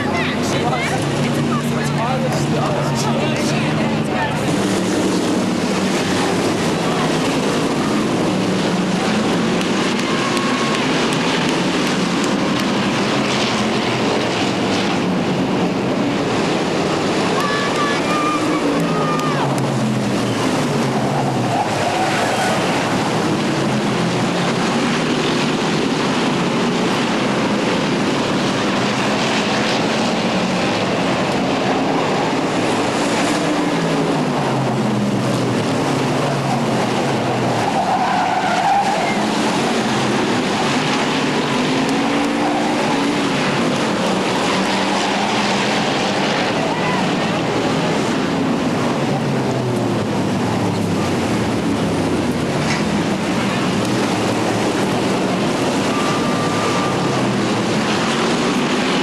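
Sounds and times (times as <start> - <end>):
stock car engines racing: 0.0 - 59.0.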